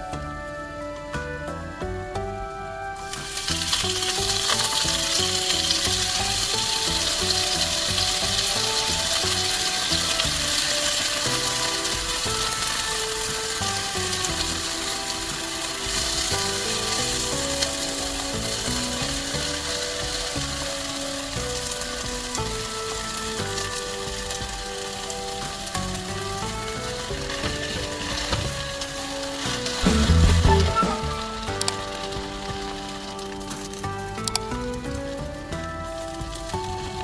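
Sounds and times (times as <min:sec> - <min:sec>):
music with plucked melody and beat: 0:00.0 - 0:37.0
food sizzling in a pan: 0:03.0 - 0:34.0.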